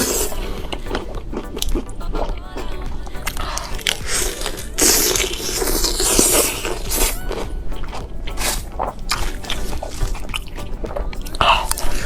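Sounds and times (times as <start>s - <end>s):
person chewing and crunching food: 0.0s - 12.0s.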